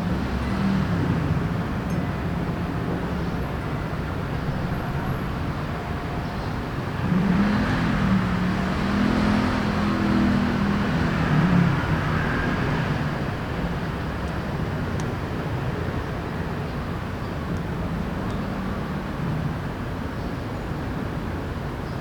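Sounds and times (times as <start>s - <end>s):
vehicle engine hum: 0.0s - 20.2s
city traffic noise: 0.0s - 22.0s.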